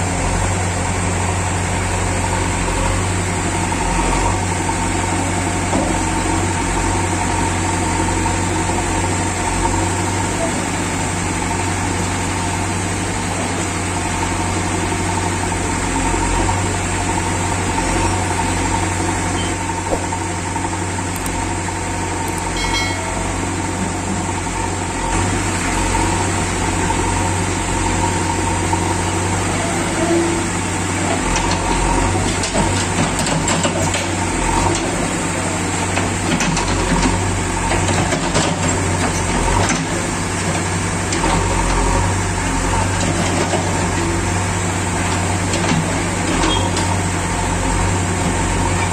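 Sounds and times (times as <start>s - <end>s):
diesel engine running: 0.0s - 48.9s
backhoe digging sand: 0.1s - 48.9s.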